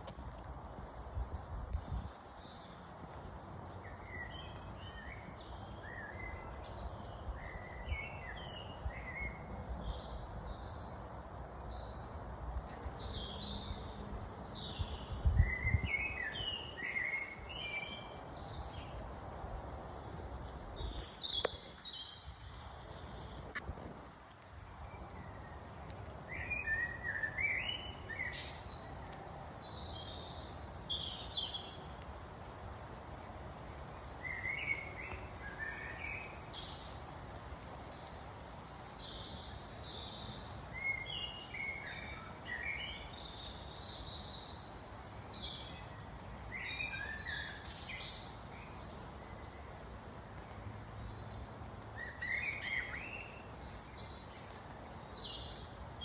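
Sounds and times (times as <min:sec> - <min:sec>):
songbirds singing and calling: 0:00.1 - 0:19.2, 0:20.0 - 0:33.3, 0:34.0 - 0:56.0.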